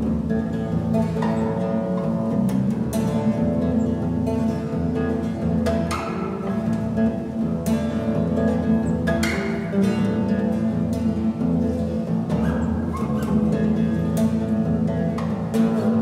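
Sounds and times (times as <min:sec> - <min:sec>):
bass guitar plucked: 0:00.0 - 0:16.0.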